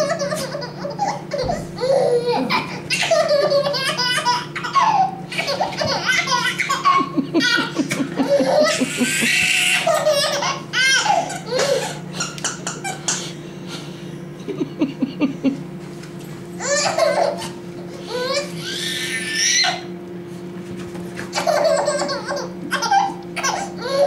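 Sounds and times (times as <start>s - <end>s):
baby laughing: 0.0s - 13.4s, 16.6s - 19.9s, 21.3s - 24.0s.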